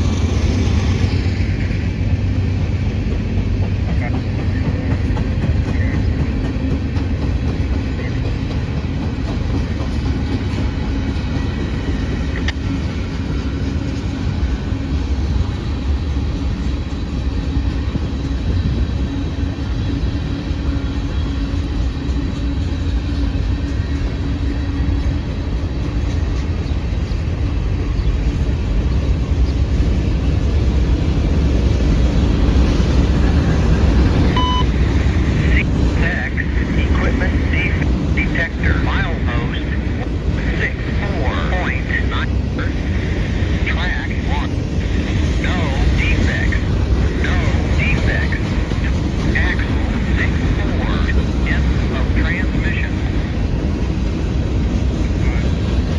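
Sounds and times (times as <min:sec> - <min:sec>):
train rumbling on rails: 0:00.0 - 0:55.9.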